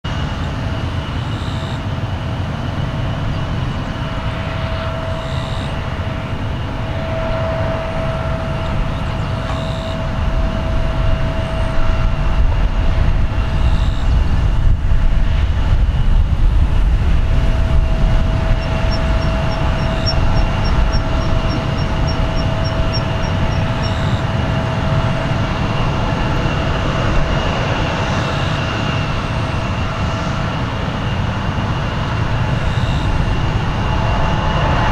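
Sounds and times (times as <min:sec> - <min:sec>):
distant jet engines running: 0:00.0 - 0:34.9.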